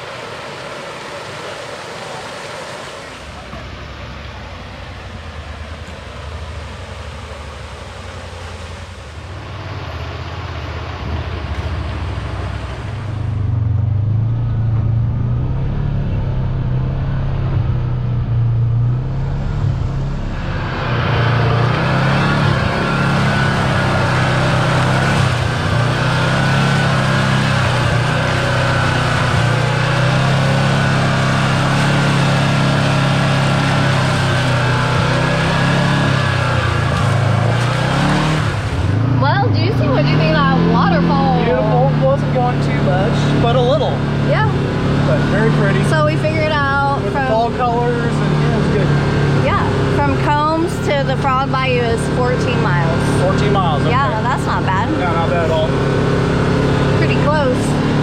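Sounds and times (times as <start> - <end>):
utv engine running: 3.3 - 58.0.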